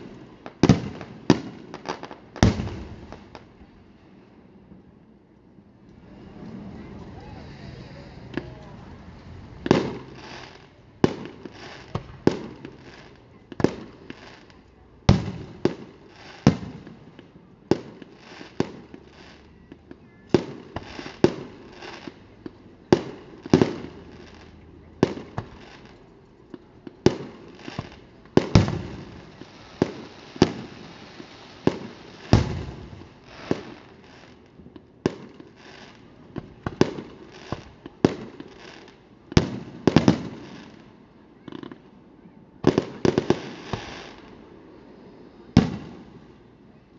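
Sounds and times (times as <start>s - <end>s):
fireworks bursting with echo: 0.0s - 3.8s, 5.8s - 41.8s, 42.6s - 46.5s.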